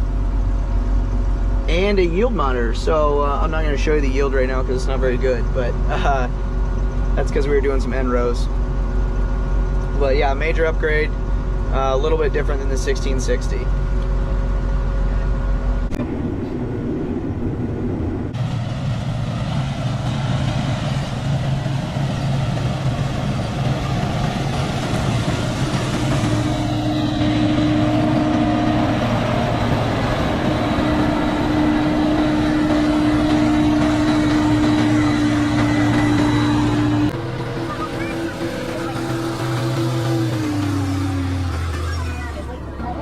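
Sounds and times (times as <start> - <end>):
heavy farm machinery engine hum: 0.0 - 43.0.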